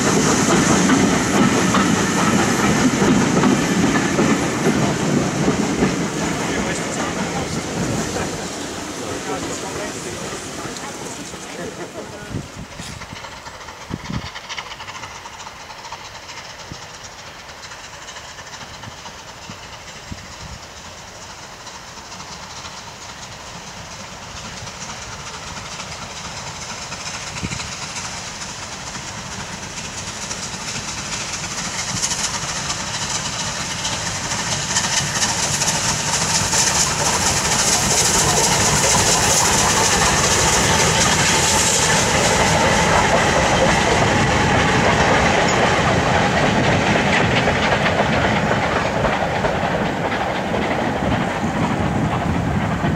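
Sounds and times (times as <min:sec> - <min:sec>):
steam locomotive engine: 0:00.0 - 0:52.9
wheels clattering on rails: 0:00.0 - 0:52.9.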